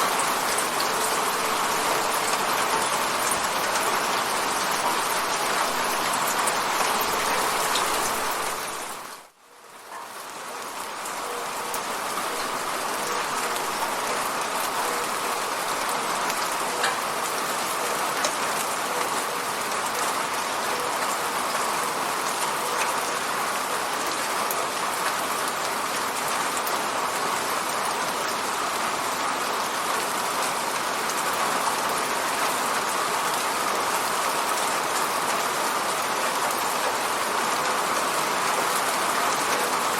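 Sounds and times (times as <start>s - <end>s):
rain on window: 0.0s - 39.9s.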